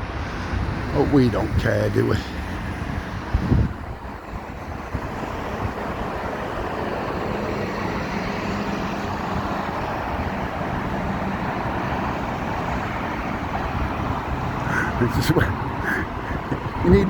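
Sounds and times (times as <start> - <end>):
engine hum: 0.0 - 17.0
tyres hissing on wet road: 0.0 - 17.0.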